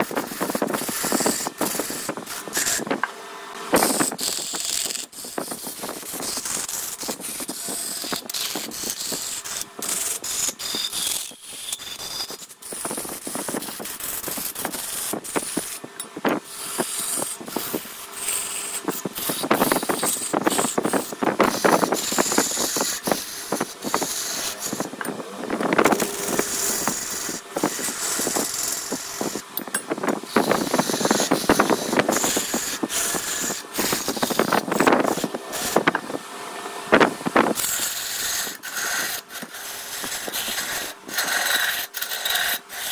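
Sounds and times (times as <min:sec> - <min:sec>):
lathe tool scraping wood: 0:00.0 - 0:42.9.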